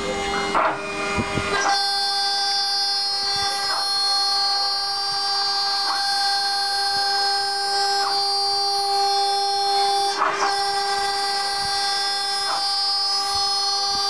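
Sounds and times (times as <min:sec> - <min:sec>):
cnc router spindle whine: 0:00.0 - 0:14.0.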